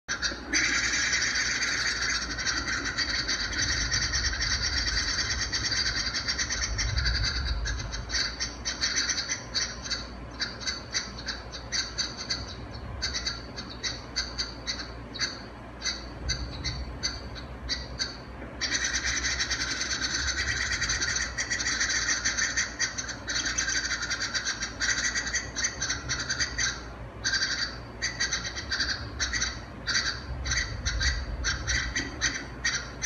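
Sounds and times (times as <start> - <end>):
nestlings chirping: 0.1 - 33.0.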